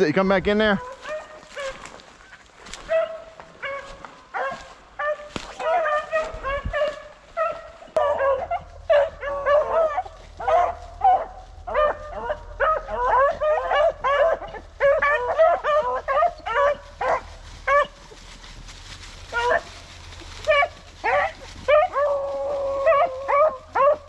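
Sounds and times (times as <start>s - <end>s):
dogs baying: 0.7s - 24.0s.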